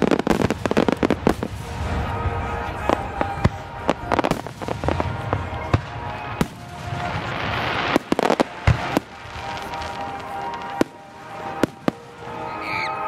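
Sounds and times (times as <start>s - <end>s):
fireworks bangs: 0.0s - 13.0s
hissing rush of fireworks: 0.0s - 13.0s.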